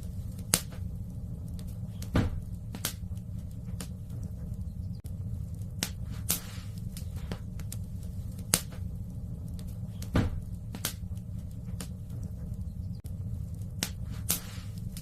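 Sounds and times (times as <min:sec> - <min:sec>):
fire popping: 0:00.0 - 0:15.0
low fire rumble: 0:00.0 - 0:15.0
wood fire crackling: 0:00.0 - 0:15.0.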